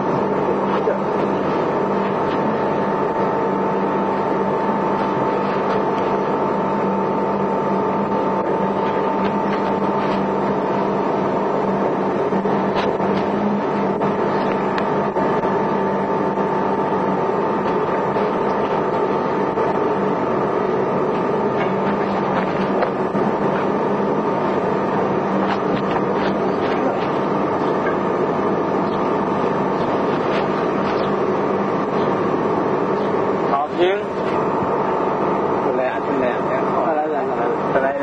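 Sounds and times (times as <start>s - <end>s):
constant low hum: 0.0s - 38.0s.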